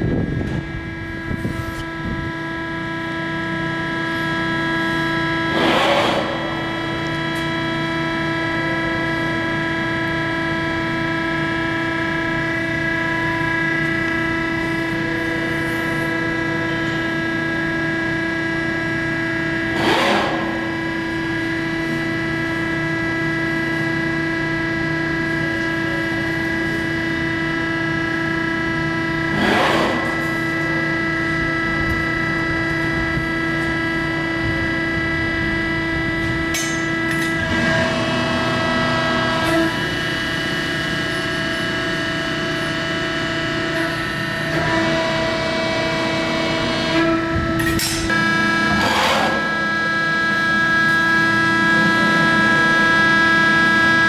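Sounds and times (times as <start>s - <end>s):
hydraulic pump humming: 0.0s - 54.0s.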